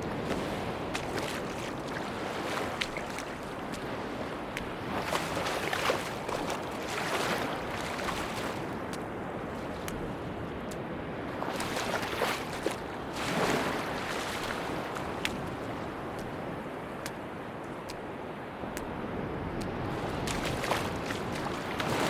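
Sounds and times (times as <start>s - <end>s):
sea waves washing on beach: 0.0s - 22.0s
wind: 0.0s - 22.0s.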